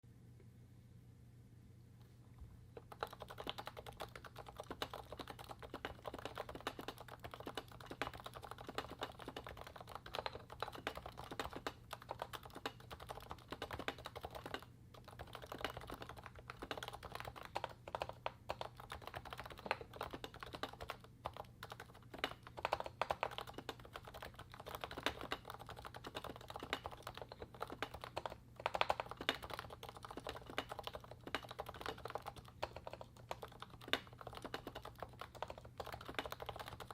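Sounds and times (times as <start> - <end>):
keyboard typing: 2.8 - 36.9.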